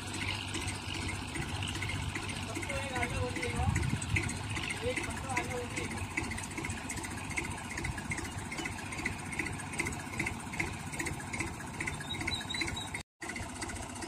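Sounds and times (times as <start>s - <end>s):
diesel tractor engine idling: 0.0s - 14.0s.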